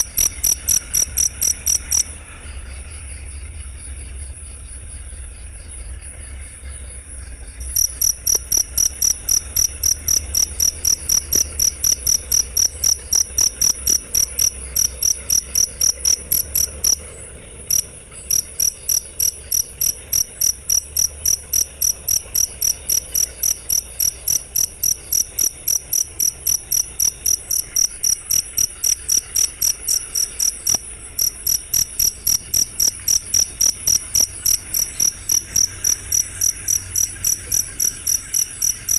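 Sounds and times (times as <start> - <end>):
cricket chirping: 0.0 - 38.9
steady low hum: 0.0 - 38.9.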